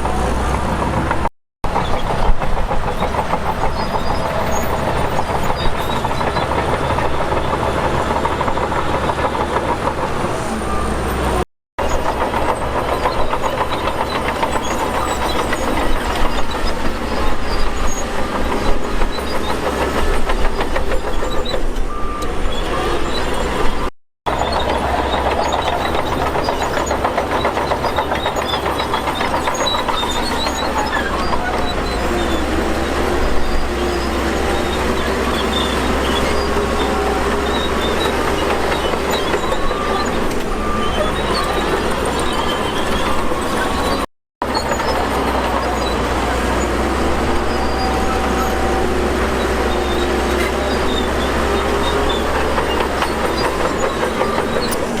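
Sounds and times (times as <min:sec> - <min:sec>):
bulldozer diesel engine running: 0:00.0 - 0:55.0
metallic clatter of tracks: 0:00.5 - 0:10.3, 0:11.8 - 0:55.0.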